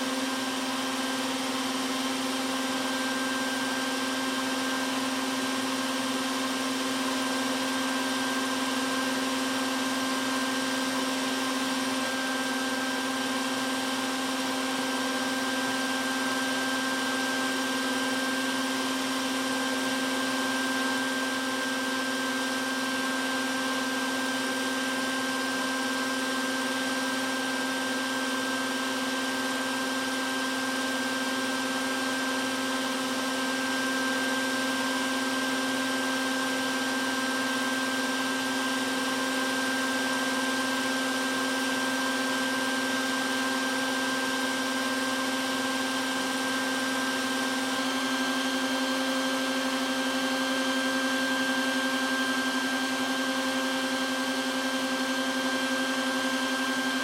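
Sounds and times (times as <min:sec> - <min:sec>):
vacuum motor humming: 0:00.0 - 0:57.0.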